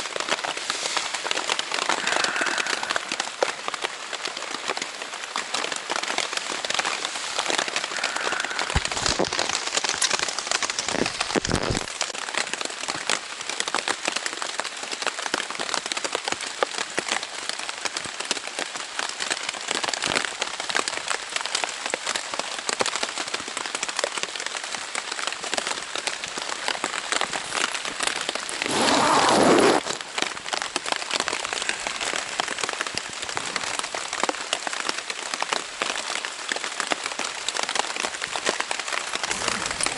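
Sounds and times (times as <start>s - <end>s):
heavy rain on tent fabric: 0.0s - 39.9s.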